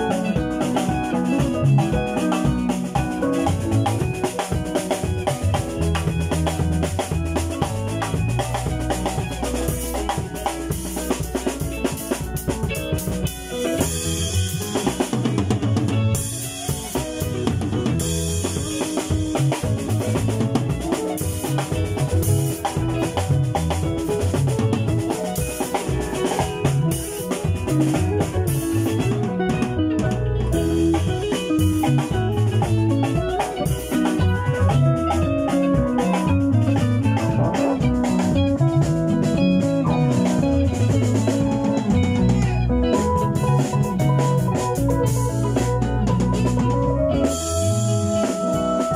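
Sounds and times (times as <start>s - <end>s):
bass guitar: 0.0s - 48.9s
drum kit beat: 0.0s - 48.9s.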